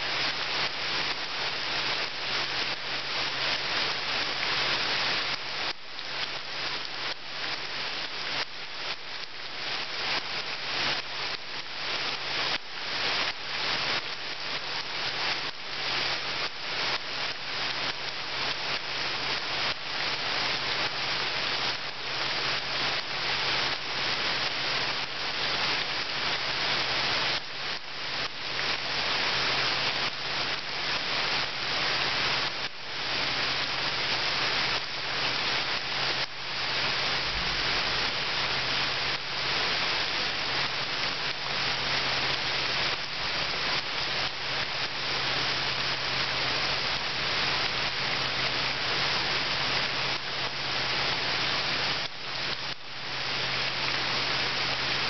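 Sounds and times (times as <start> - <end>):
rain falling into water: 0.0 - 55.0.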